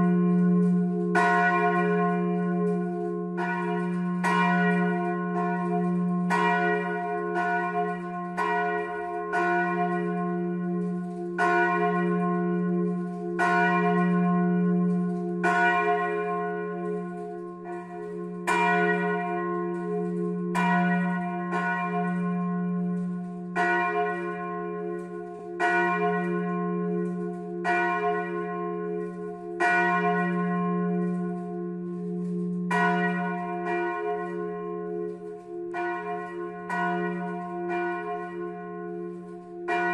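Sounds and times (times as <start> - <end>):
large church bell clanging: 0.0 - 39.9.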